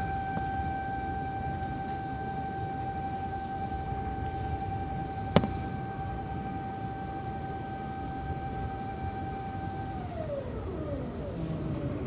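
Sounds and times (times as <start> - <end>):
airliner cabin whine and rumble: 0.0 - 12.0.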